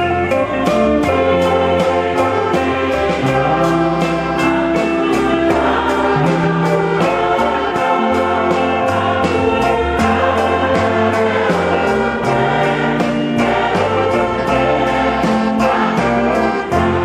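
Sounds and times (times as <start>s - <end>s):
gospel choir singing with band: 0.0s - 17.0s.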